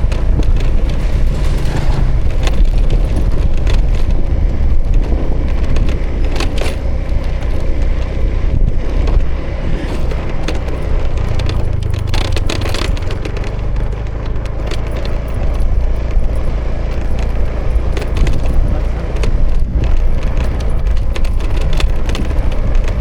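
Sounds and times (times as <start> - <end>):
loud low riding rumble: 0.0 - 23.0
scooter engine running: 0.0 - 23.0
short clicks and rattles: 0.0 - 23.0.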